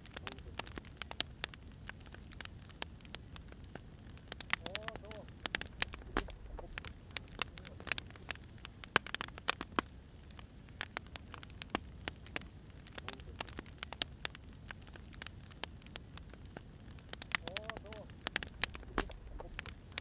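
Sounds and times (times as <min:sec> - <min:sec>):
firewood popping and crackling: 0:00.0 - 0:20.0
low rumble of fire: 0:00.0 - 0:20.0.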